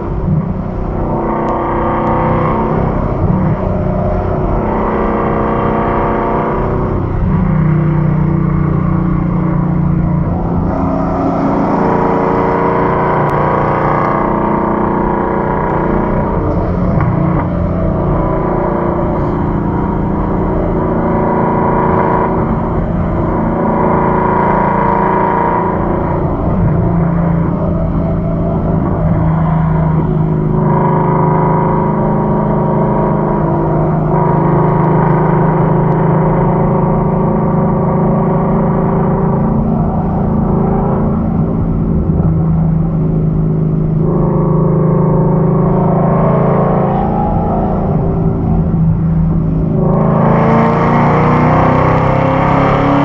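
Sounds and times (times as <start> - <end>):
car engine cruising: 0.0 - 53.0
tyre and road rumble: 0.0 - 53.0.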